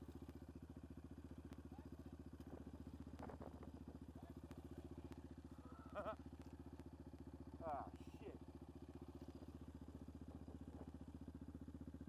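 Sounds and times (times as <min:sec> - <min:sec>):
quad engine idling: 0:00.0 - 0:12.0.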